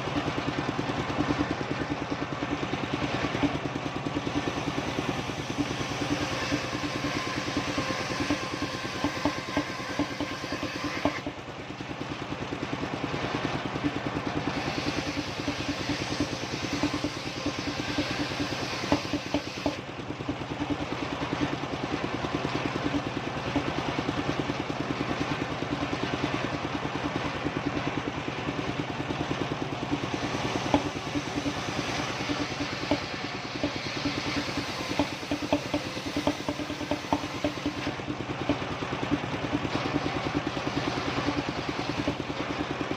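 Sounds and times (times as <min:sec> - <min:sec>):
engine chugging: 0:00.0 - 0:42.9.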